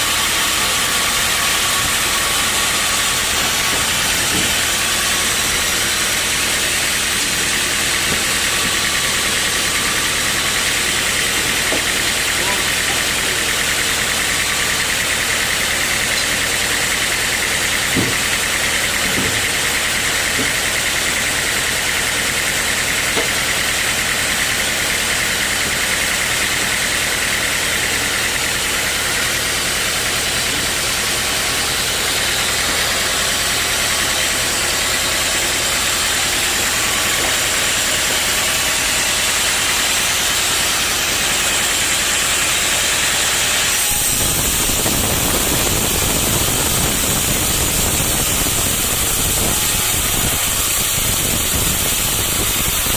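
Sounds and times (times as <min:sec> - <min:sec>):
sawmill machinery droning: 0:00.0 - 0:52.9.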